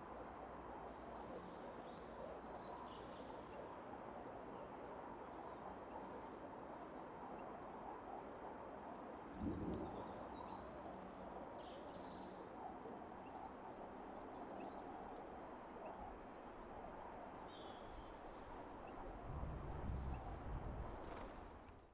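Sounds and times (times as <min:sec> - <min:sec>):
outdoor background hiss: 0:00.0 - 0:21.9.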